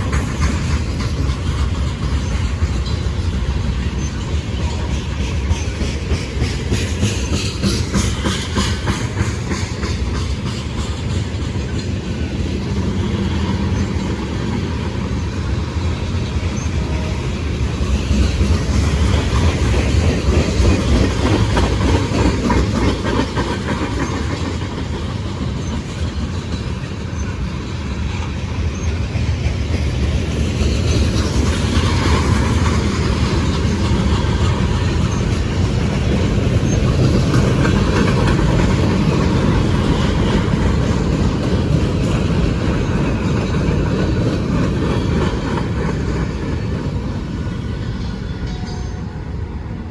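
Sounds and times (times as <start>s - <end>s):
wheels clacking over rail joints: 0.0s - 49.5s
train rolling past: 0.0s - 49.9s.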